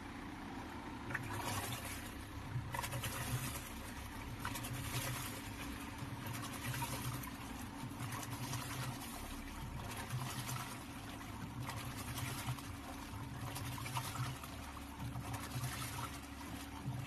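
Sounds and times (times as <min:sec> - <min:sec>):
washing machine motor humming: 0:00.0 - 0:17.0
water sloshing and trickling: 0:00.8 - 0:17.0.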